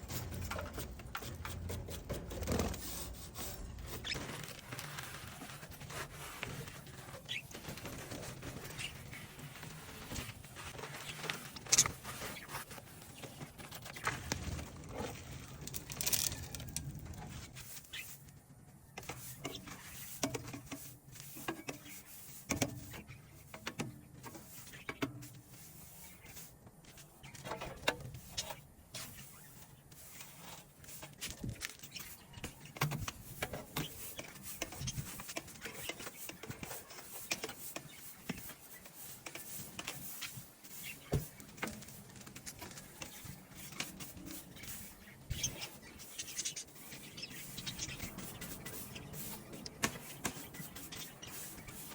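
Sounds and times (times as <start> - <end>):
scraping and rubbing of bird cage: 0.0 - 18.3, 19.0 - 51.9.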